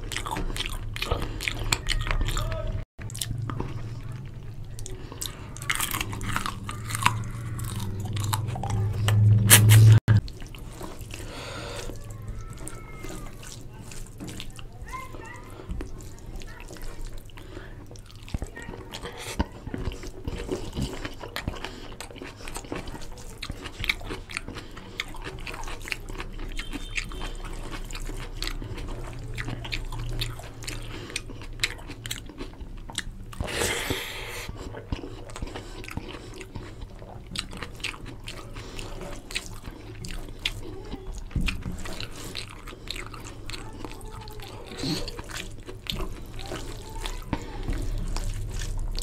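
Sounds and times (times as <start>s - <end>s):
wet chewing and mouth clicks: 0.0s - 49.0s.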